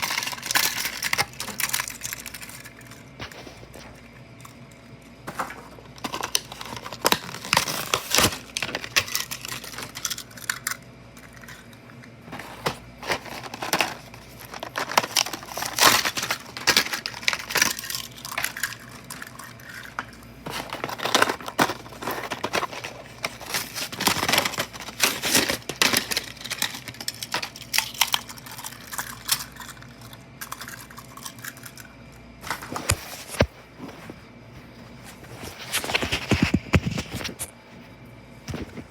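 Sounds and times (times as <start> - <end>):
plastic and card crinkling: 0.0 - 31.8, 32.4 - 38.9.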